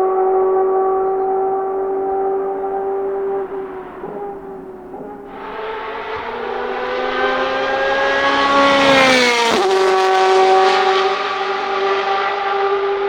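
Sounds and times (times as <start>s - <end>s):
race car accelerating past: 0.0s - 13.0s.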